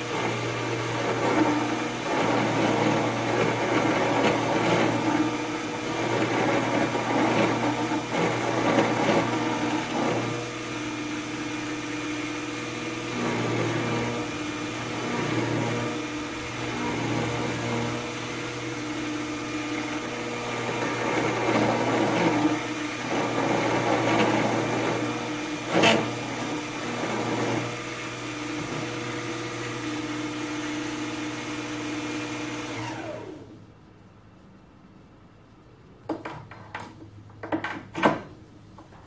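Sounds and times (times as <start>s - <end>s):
end mill cutting aluminium: 0.0s - 33.4s.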